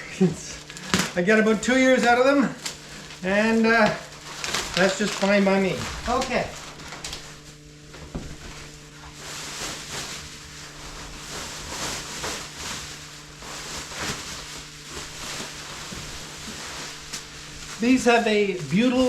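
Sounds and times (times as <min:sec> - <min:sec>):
drop cloth rustling: 0:00.0 - 0:19.0
steady low hum: 0:00.0 - 0:19.0.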